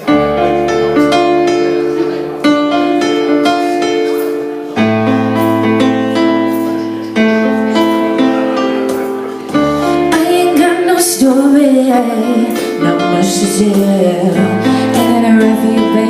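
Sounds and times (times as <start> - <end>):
piano chords and melody: 0.0 - 16.0.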